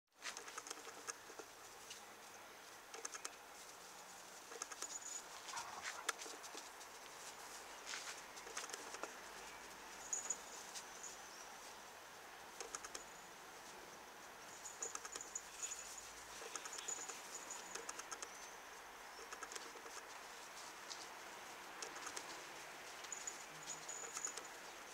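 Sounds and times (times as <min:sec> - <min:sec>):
puppies scuffling on grass: 0:00.2 - 0:17.7, 0:18.3 - 0:24.9.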